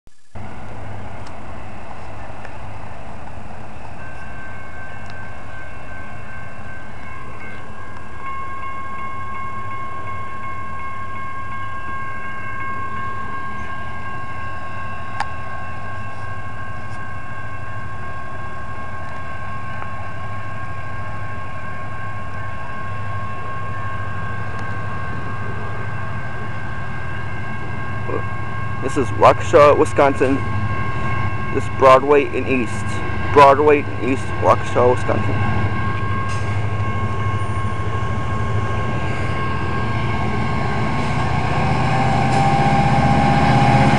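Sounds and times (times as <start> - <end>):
freight train rumbling: 0.2 - 43.9
railroad crossing bells ringing: 0.4 - 43.9.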